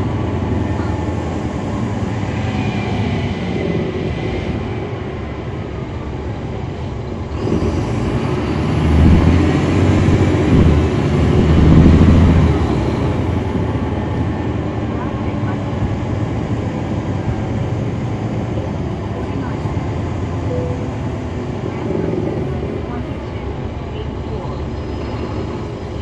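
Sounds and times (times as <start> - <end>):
bus diesel engine: 0.0 - 26.0.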